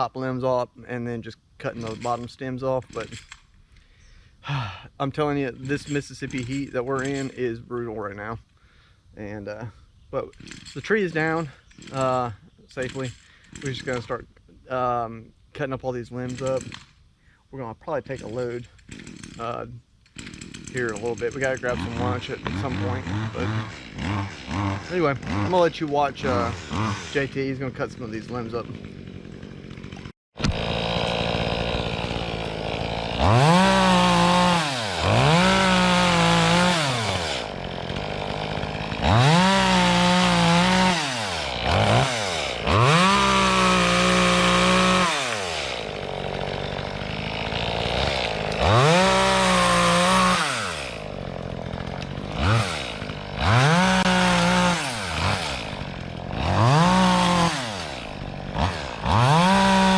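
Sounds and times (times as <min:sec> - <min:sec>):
chainsaw revving and idling: 0:01.7 - 0:03.4, 0:04.5 - 0:17.0, 0:17.9 - 0:59.9.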